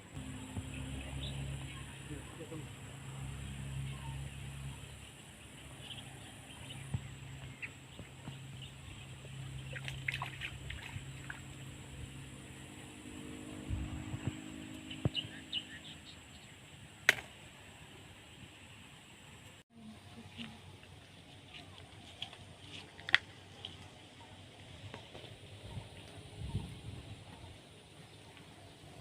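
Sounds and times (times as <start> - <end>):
faint water: 0.0 - 16.8, 17.4 - 29.0
low steady hum: 0.0 - 29.0.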